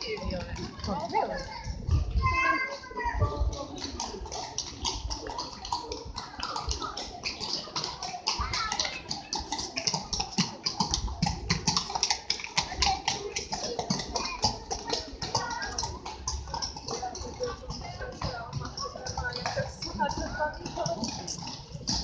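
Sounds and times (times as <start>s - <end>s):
faint street chatter: 0.0s - 22.0s
rapid even tapping: 3.4s - 22.0s.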